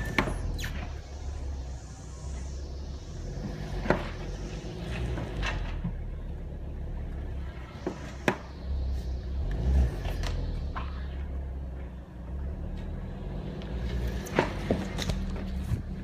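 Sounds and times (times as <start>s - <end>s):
vehicle engine low rumble: 0.0s - 16.0s.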